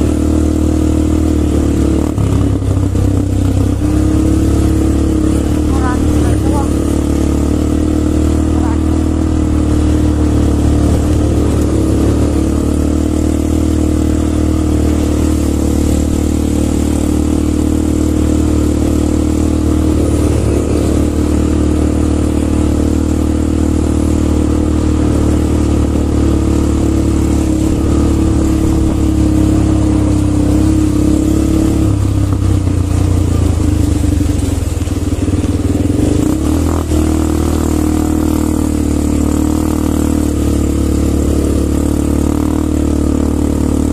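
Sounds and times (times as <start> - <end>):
quad bike engines running: 0.0 - 43.9.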